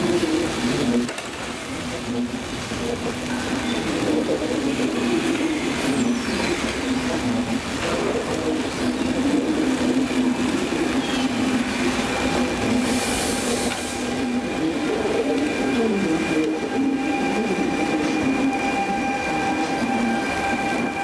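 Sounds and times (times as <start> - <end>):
train rumbling on tracks: 0.0 - 21.0.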